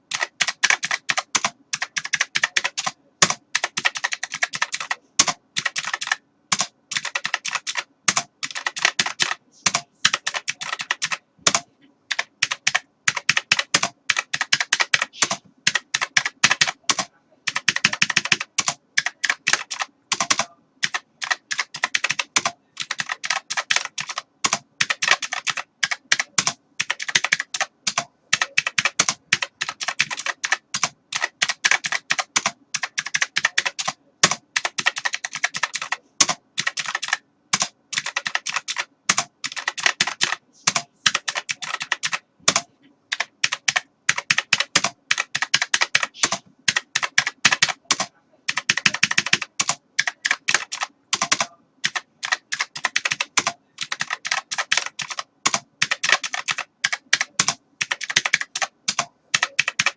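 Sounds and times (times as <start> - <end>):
keyboard typing: 0.0 - 59.9.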